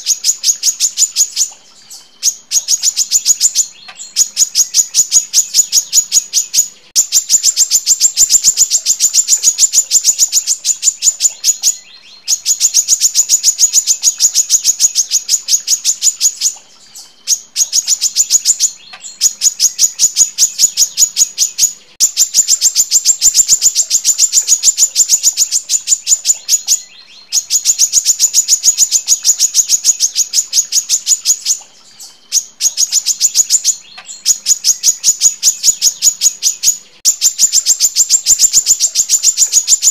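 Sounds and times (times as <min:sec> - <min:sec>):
bird calling in rapid high notes: 0:00.0 - 0:39.9.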